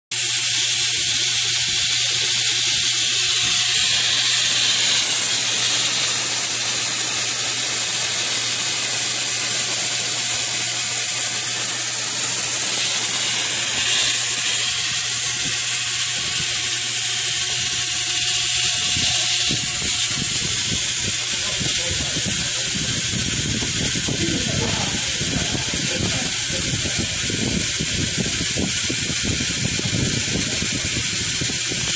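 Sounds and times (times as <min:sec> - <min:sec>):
loud steady hiss: 0:00.1 - 0:31.9.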